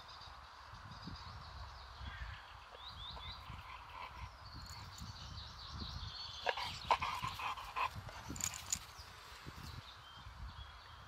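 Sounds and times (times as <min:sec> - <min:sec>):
birds chirping: 0:00.0 - 0:11.0
wind rumble on microphone: 0:00.2 - 0:11.0.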